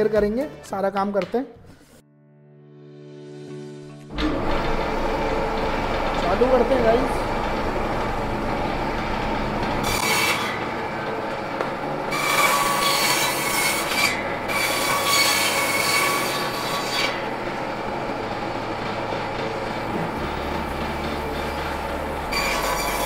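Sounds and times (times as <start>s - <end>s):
table saw cutting wood: 4.1s - 23.0s.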